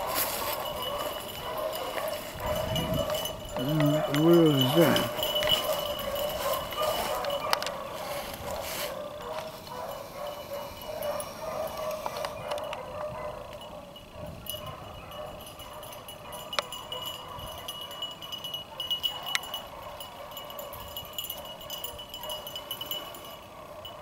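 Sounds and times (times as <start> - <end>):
hounds baying: 0.0 - 24.0
thin steady high tone: 0.0 - 24.0.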